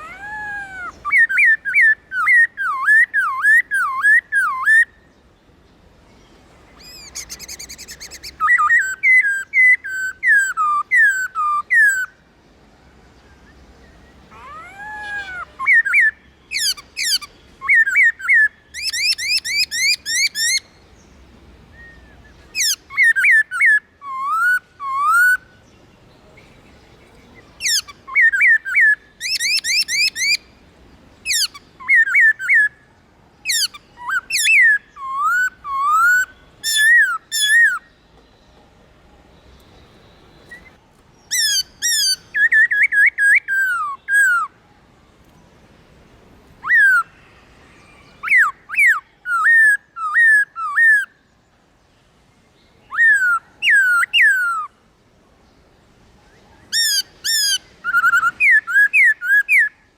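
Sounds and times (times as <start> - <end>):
bird singing whistled notes: 0.0 - 5.4, 6.2 - 12.2, 13.0 - 30.6, 31.2 - 38.6, 39.4 - 44.6, 46.6 - 51.4, 52.6 - 54.8, 56.2 - 59.9.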